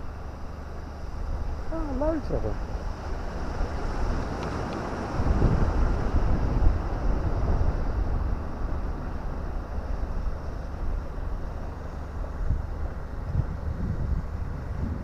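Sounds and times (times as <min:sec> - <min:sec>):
wind buffeting microphone: 0:01.2 - 0:15.0.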